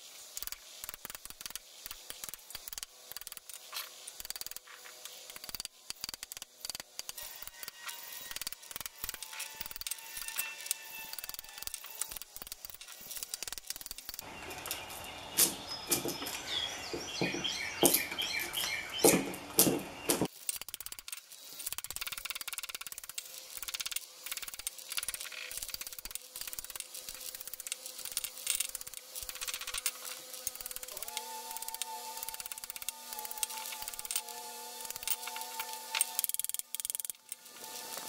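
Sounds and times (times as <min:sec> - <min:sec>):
screwdriver scraping metal: 0:00.4 - 0:14.2, 0:20.4 - 0:38.0.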